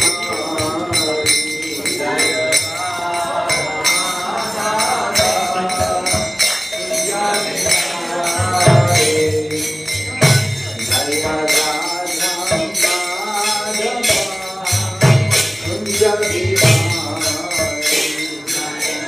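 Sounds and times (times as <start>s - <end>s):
man singing a chant: 0.0s - 19.0s
small hand cymbals: 0.0s - 19.0s.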